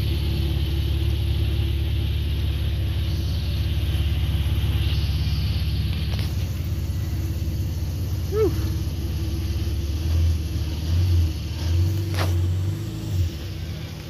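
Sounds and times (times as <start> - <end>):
car engine idling: 0.0 - 14.0
engine throttle blips: 0.0 - 14.0.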